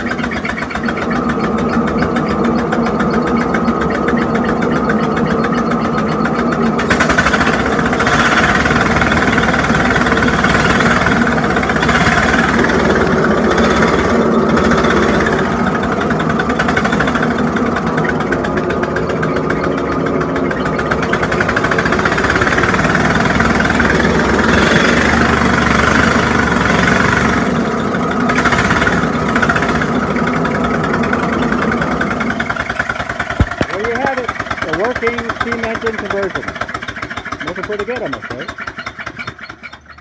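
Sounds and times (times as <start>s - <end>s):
steam engine running: 0.0s - 40.0s.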